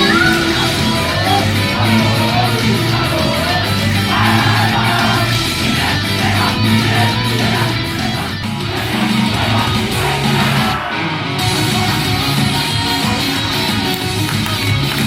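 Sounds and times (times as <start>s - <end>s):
steady bass line: 0.0s - 15.0s
strummed electric guitar: 0.0s - 15.0s
upbeat pop song: 0.0s - 15.0s.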